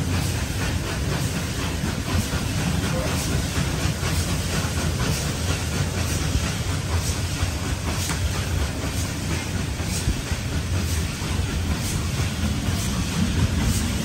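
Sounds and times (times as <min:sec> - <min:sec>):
wheels rumbling on rails: 0:00.0 - 0:14.0.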